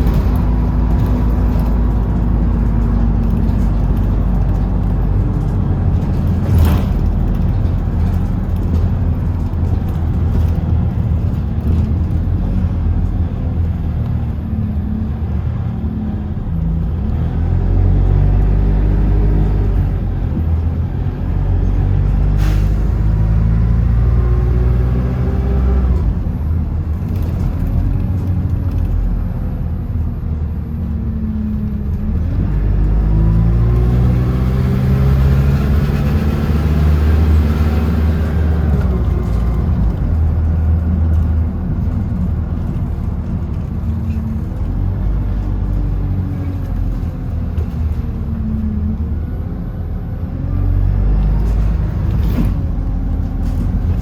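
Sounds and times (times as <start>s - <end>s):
bus engine shifting gears: 0.0s - 54.0s.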